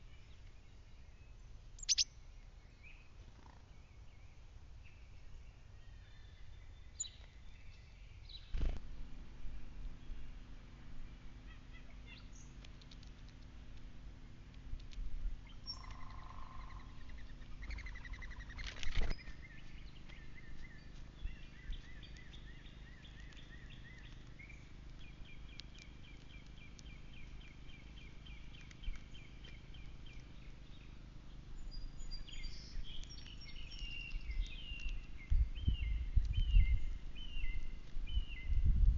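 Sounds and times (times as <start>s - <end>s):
small birds calling: 0.0s - 8.8s, 9.5s - 38.9s.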